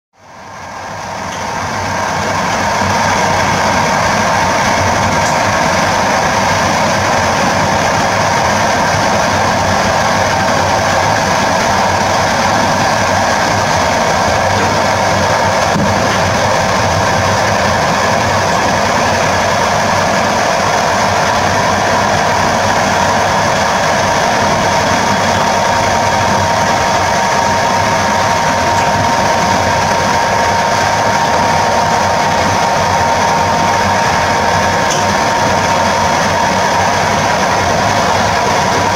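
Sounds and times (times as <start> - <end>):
electric locomotive hum: 0.2 - 38.9
wheels rumbling on rails: 0.2 - 38.9.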